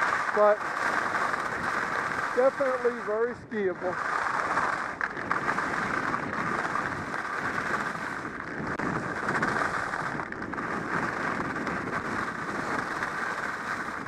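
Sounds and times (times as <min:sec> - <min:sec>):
skis scraping on hard snow: 0:00.0 - 0:14.0.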